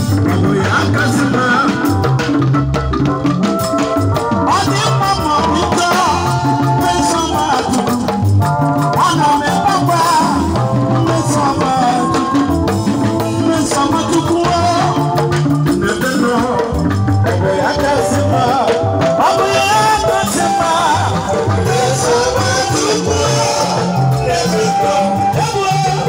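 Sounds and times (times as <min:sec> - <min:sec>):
bass guitar: 0:00.0 - 0:26.0
congas: 0:00.0 - 0:26.0
drum kit: 0:00.0 - 0:26.0
electric guitars: 0:00.0 - 0:26.0.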